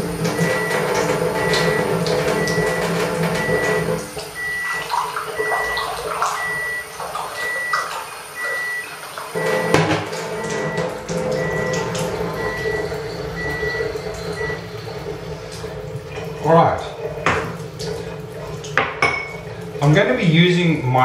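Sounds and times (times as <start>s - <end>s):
water ionizer humming: 0.0s - 21.0s.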